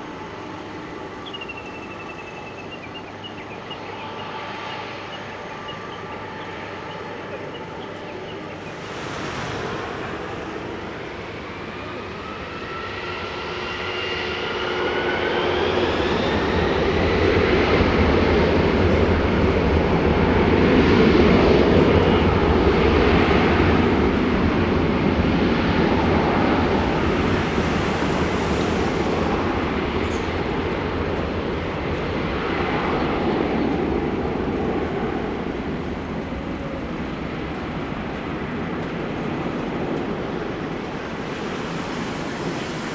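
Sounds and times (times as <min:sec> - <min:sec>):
jet airliner roar on takeoff: 0:00.0 - 0:42.9
jet engines whining: 0:00.0 - 0:42.9.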